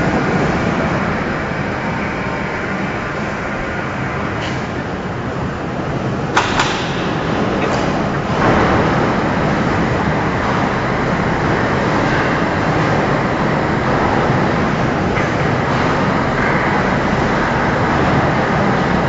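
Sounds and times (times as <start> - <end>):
bridge crane rumbling on rails: 0.0 - 19.0.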